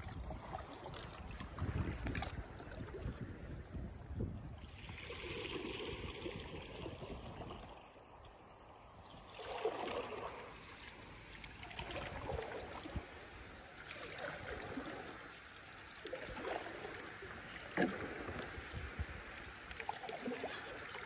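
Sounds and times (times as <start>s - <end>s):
paddle strokes swishing in water: 0.0s - 21.0s.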